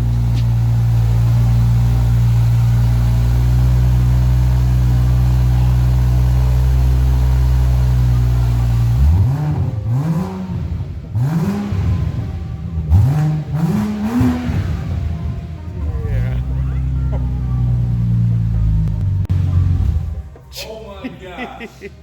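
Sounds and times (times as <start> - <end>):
engine revving: 0.0 - 20.2
car engine idling: 0.0 - 20.9.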